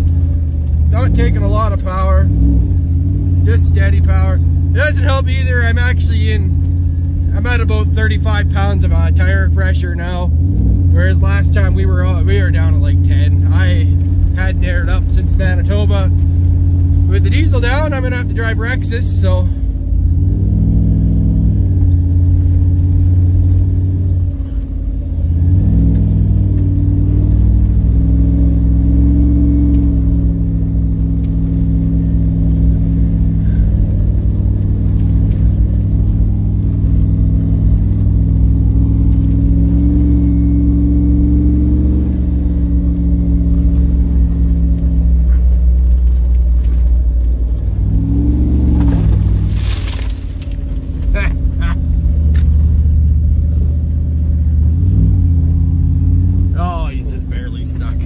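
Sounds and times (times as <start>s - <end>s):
vehicle engine running under load: 0.0s - 58.0s.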